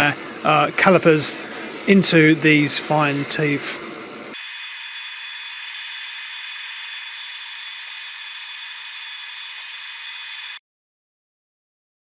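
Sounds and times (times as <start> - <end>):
laser engraver hissing and whining: 0.0 - 10.6.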